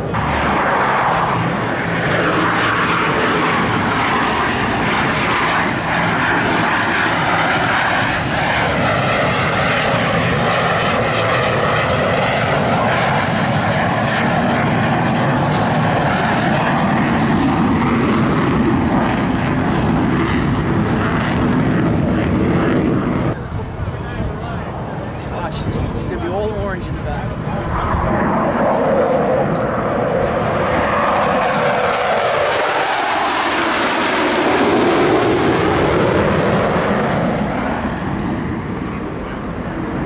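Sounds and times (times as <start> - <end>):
jet engines rushing: 0.0 - 40.0.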